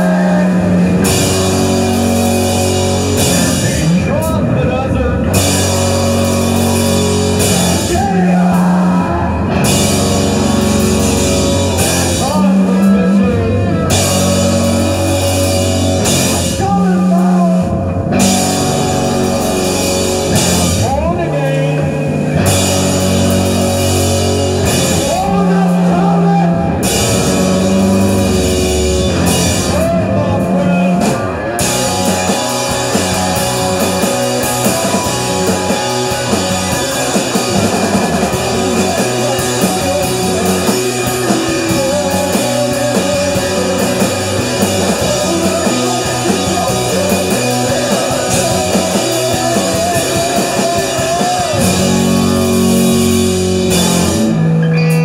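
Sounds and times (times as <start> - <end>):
bass guitar: 0.0 - 55.0
distorted electric guitars: 0.0 - 55.0
drum kit: 0.0 - 55.0.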